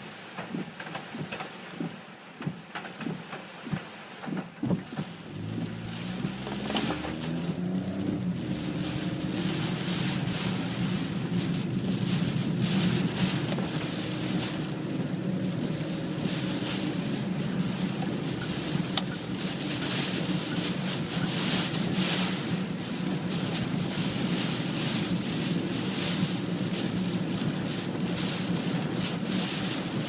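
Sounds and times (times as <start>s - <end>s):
rain: 0.0s - 30.0s
storm wind: 0.0s - 30.0s
wind gusts buffeting microphone: 0.4s - 30.0s.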